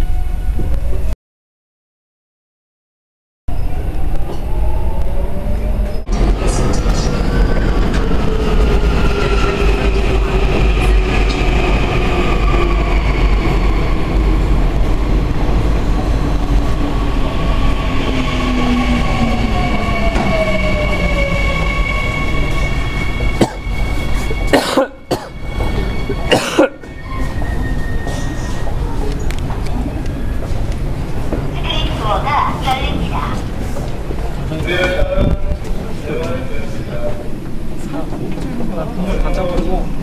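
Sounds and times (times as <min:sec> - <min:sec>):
subway train rumble: 0:03.5 - 0:40.0.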